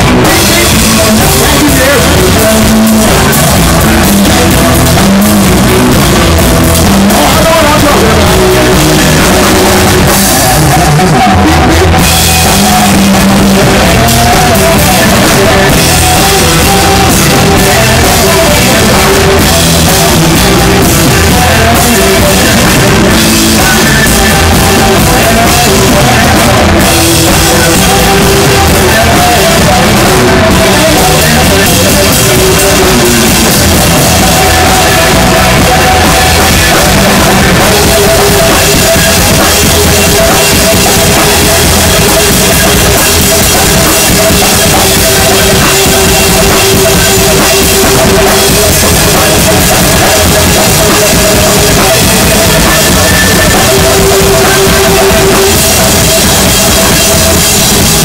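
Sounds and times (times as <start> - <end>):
blues-rock band playing: 0.0 - 58.0
electric guitar: 0.0 - 58.0.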